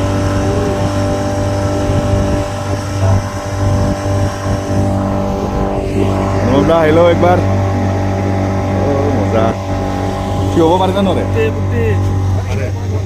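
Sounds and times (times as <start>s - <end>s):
speedboat engine droning: 0.0s - 13.0s
water rushing: 0.0s - 13.0s.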